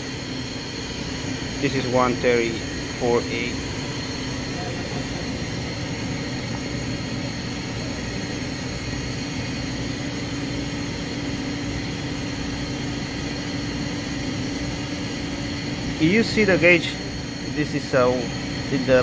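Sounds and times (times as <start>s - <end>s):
refrigeration unit humming: 0.0s - 19.0s.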